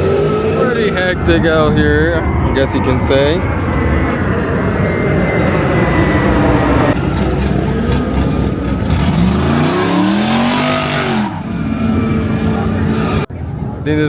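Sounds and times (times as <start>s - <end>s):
car engine revving: 0.0s - 13.3s.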